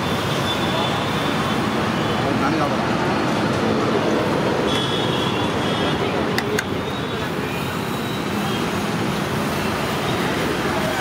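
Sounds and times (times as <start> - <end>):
roadside traffic: 0.0 - 11.0.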